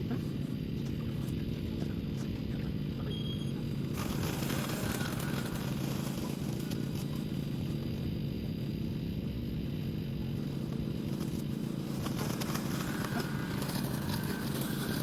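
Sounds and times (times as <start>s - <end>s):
robotic lawn mower cutting grass: 0.0s - 15.0s.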